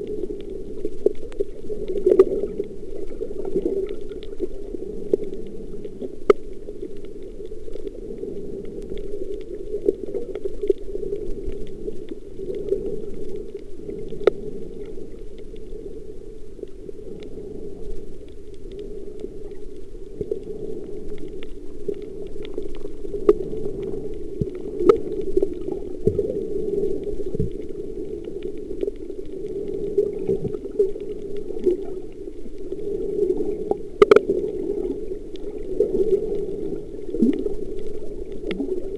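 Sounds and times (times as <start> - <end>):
muffled underwater rush: 0.0 - 38.9
sharp clicks underwater: 0.1 - 38.9.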